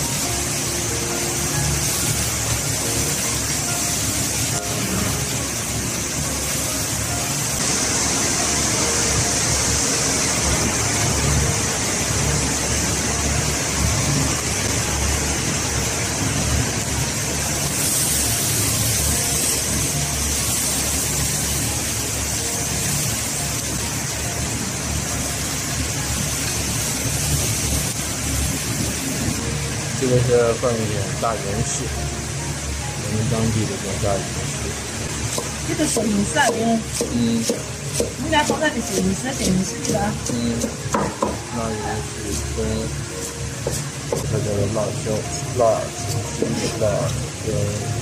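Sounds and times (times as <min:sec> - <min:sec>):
food stir-frying hiss: 0:00.0 - 0:48.0
wok burner roaring: 0:00.0 - 0:48.0.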